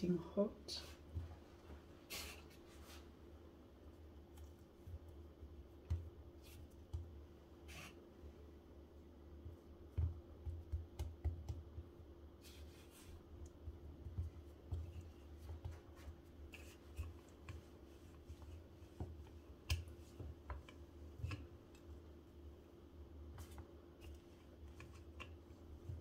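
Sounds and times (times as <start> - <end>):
hands patting dough: 1.0 - 8.0, 8.7 - 26.0.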